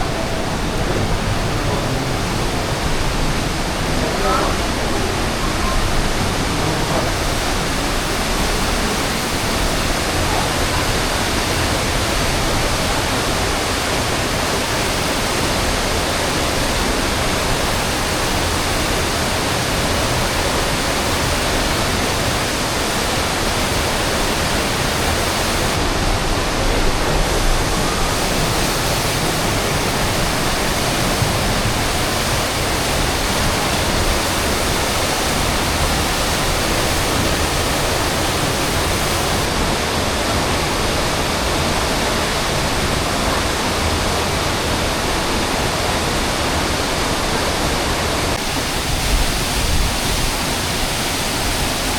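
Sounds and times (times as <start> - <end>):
water rushing through gorge: 0.0 - 51.9.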